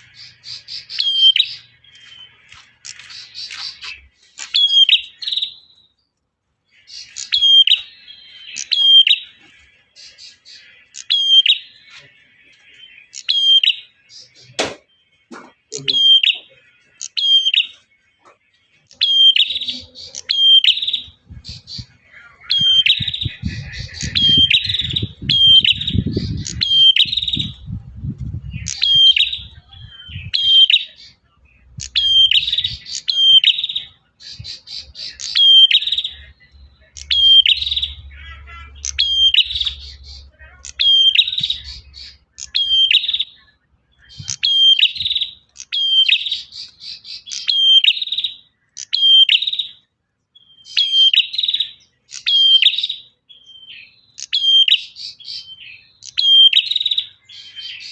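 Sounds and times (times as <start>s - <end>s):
bird chirping: 0.0s - 57.9s.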